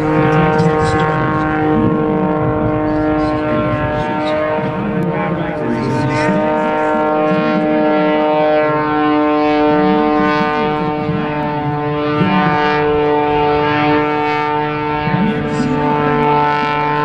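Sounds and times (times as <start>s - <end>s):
propeller plane droning overhead: 0.0s - 17.0s.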